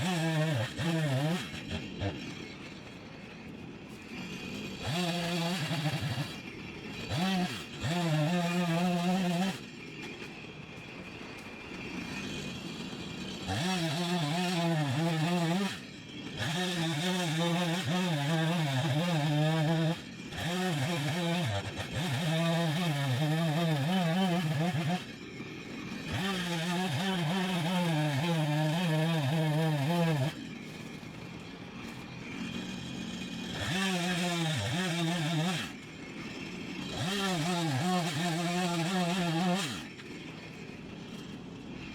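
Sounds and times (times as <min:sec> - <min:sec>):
chainsaw revving: 0:00.0 - 0:41.9.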